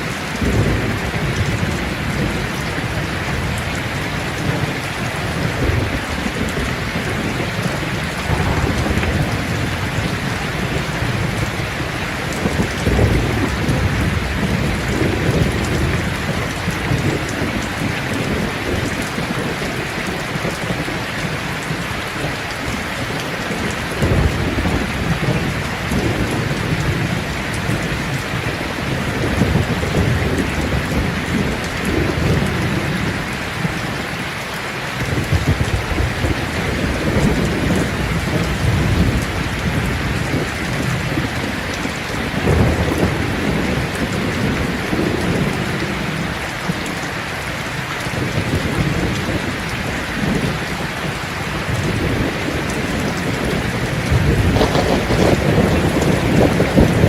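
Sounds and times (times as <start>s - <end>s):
heavy rain falling: 0.0s - 57.0s
low rolls of thunder: 0.3s - 22.3s, 23.0s - 33.8s, 35.0s - 46.3s, 48.0s - 57.0s.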